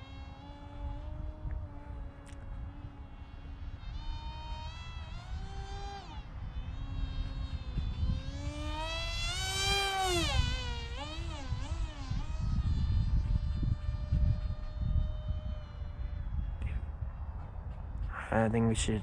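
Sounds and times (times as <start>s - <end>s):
model plane motor and propeller whining: 0.0s - 19.0s.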